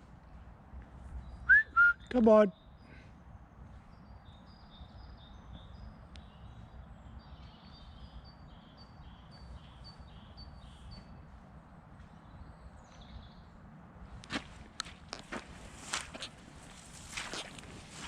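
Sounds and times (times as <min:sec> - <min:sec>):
faint low outdoor rumble: 0:00.0 - 0:18.0
songbird singing: 0:00.0 - 0:18.0.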